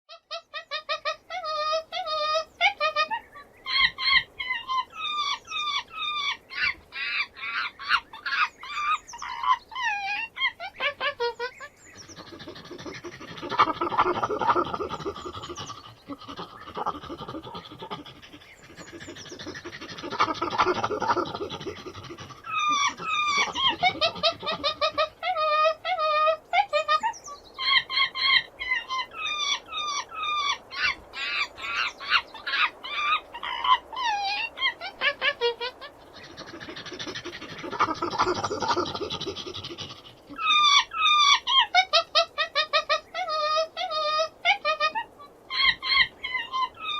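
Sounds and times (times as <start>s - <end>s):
monkey chattering and screeching: 0.3s - 46.9s.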